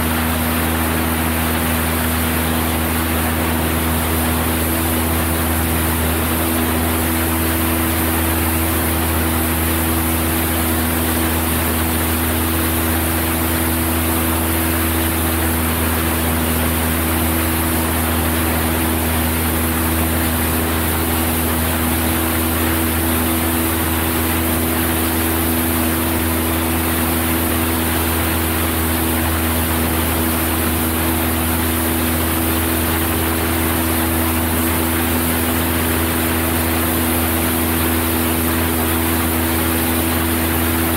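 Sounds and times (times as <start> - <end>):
airplane propeller engine drone: 0.0 - 40.9.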